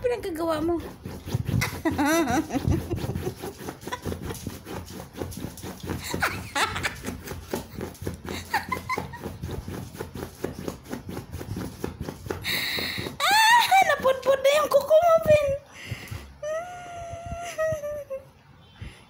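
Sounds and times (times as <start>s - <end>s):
puppy nails scratching foam: 0.0s - 18.0s.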